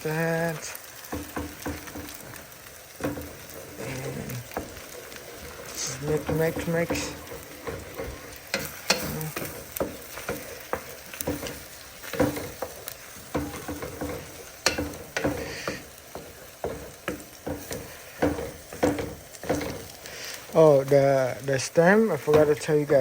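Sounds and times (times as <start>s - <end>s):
food sizzling: 0.0s - 23.0s
utensil scraping a pan: 0.5s - 23.0s.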